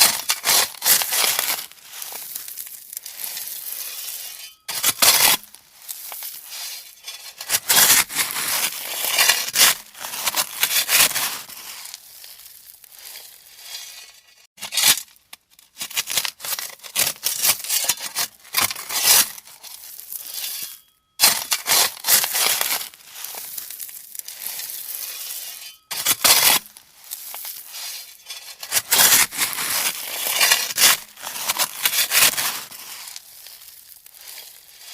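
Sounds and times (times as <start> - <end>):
shovel scraping gravel: 0.0 - 15.2, 15.8 - 34.9.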